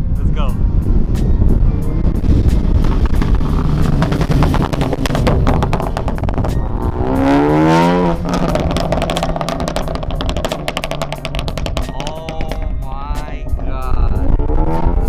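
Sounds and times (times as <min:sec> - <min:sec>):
exhaust crackles and pops: 0:00.0 - 0:15.0
car engine revving past: 0:00.7 - 0:12.8.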